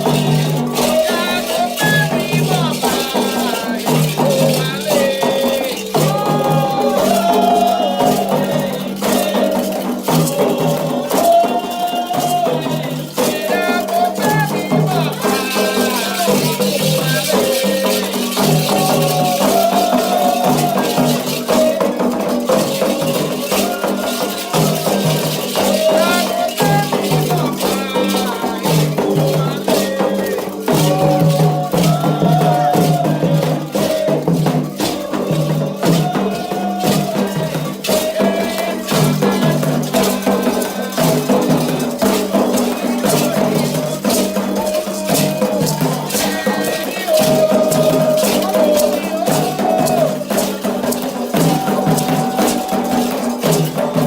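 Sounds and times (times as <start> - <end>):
percussion: 0.0 - 54.0
rattles shaken: 0.0 - 54.0
voices chanting: 0.0 - 54.0.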